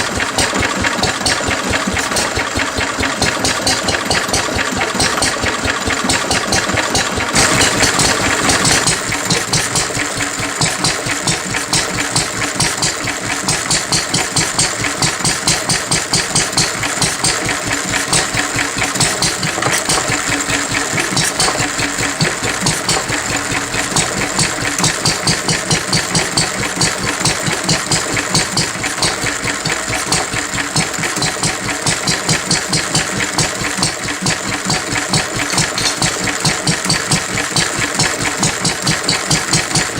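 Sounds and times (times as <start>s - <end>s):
stationary engine running: 0.0s - 39.9s.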